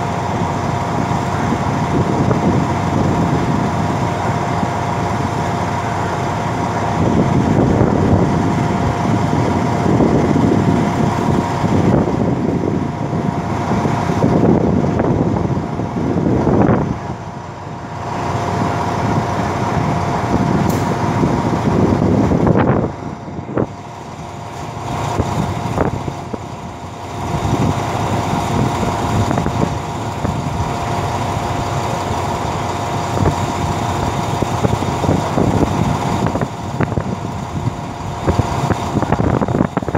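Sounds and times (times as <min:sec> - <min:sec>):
diesel train engine idling: 0:00.0 - 0:39.9.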